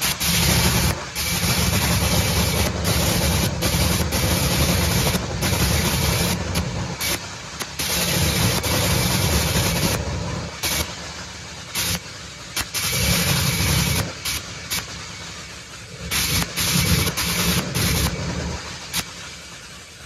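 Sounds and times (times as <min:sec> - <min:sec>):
loud rough dragster engine: 0:00.0 - 0:20.0.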